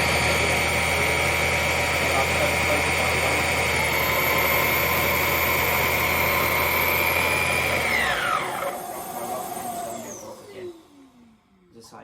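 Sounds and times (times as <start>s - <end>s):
vacuum cleaner running: 0.0s - 11.7s
motor winding down: 0.0s - 11.8s.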